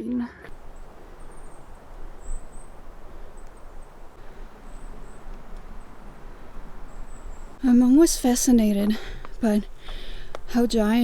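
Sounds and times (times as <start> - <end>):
small birds chirping: 0.5 - 11.0
wind on microphone: 0.5 - 11.0.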